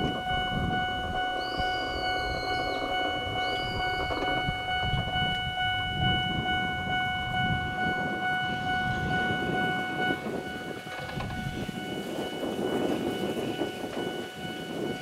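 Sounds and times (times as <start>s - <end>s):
high ringing tone: 0.0s - 15.0s
train wheels rumbling on rail: 0.0s - 15.0s.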